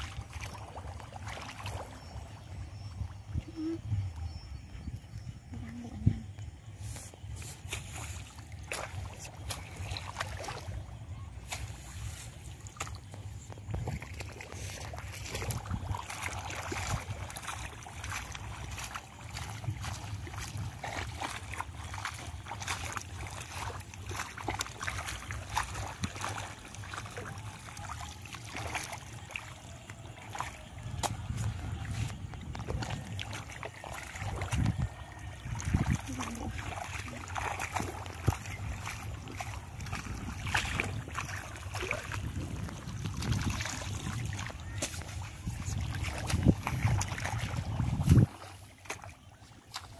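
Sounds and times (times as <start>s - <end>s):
water and mud splashing: 0.0s - 49.9s
wind rumble on microphone: 1.9s - 27.6s, 29.8s - 48.9s.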